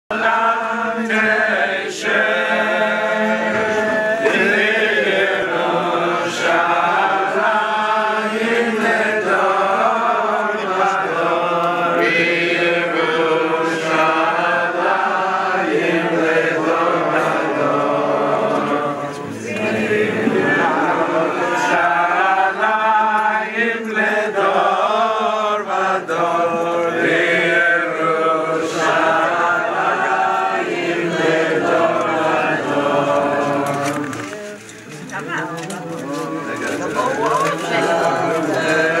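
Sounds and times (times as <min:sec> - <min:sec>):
group of people singing: 0:00.1 - 0:39.0.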